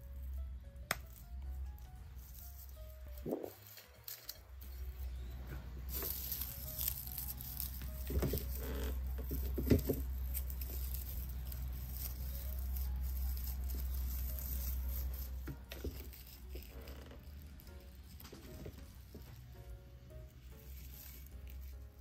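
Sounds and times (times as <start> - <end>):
dried plants rustling and crackling: 0.0 - 22.0.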